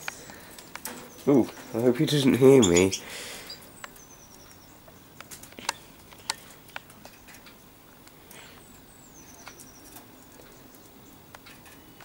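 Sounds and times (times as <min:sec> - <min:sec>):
canaries chirping: 0:00.0 - 0:12.0.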